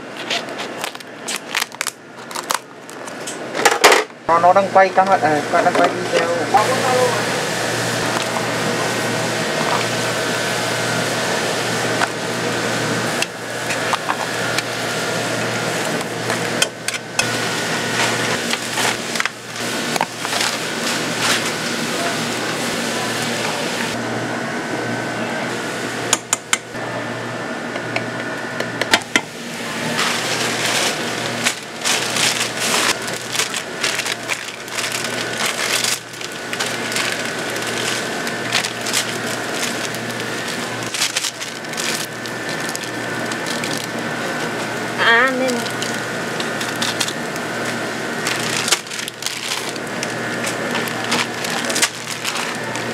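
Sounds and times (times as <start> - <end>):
steady hum: 0.0 - 52.9.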